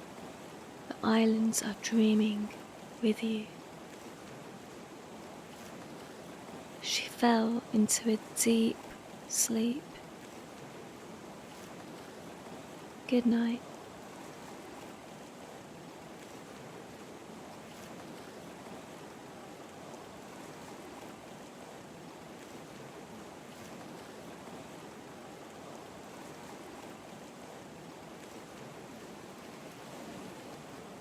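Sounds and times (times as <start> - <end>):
soft wash of ocean surf: 0.0 - 31.0.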